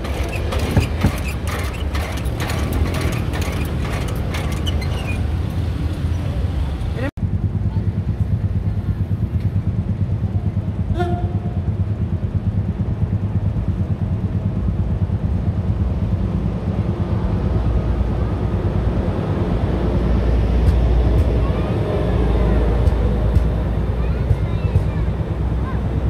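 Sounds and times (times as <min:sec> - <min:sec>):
train passing rumble: 0:00.0 - 0:26.0.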